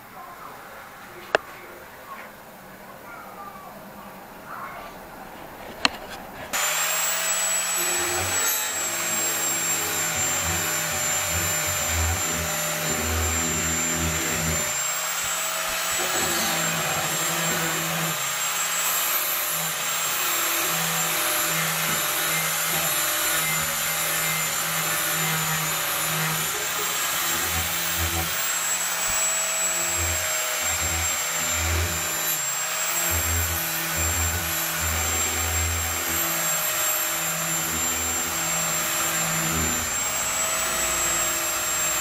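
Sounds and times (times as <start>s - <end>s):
angle grinder grinding steel: 5.7s - 42.0s.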